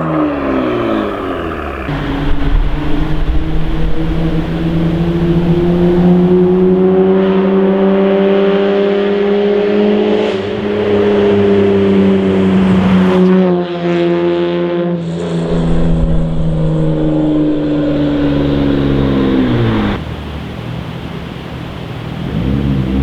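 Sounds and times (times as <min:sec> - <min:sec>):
car exhaust droning: 0:00.0 - 0:12.4, 0:15.1 - 0:23.0.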